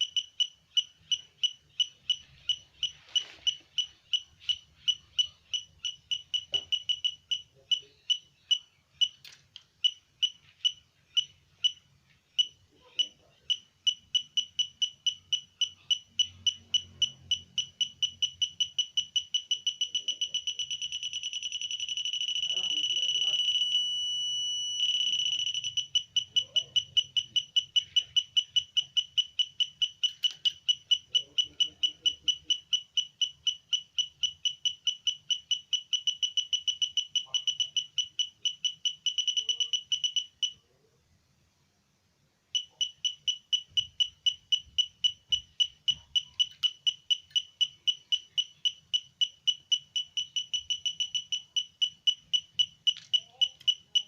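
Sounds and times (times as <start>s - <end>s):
metal detector beeping: 0.0s - 40.6s, 42.6s - 54.0s.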